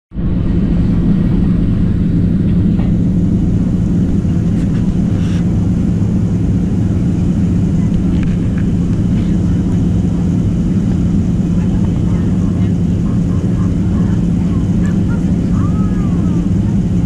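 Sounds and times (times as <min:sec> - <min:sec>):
jet engines humming: 0:00.1 - 0:17.0
cabin air noise: 0:00.2 - 0:17.0.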